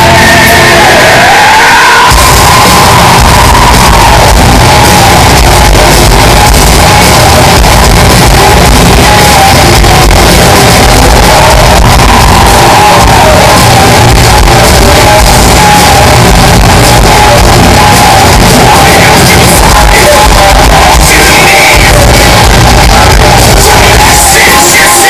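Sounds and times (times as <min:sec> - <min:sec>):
distorted electric guitars: 0:00.0 - 0:25.0
drums: 0:00.0 - 0:25.0.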